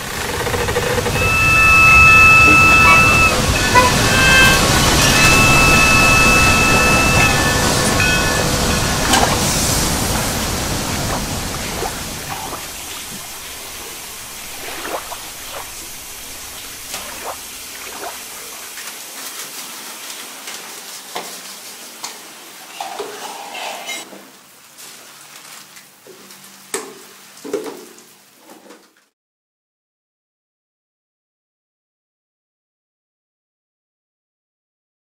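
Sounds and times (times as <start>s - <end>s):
running water hiss: 0.0s - 28.5s.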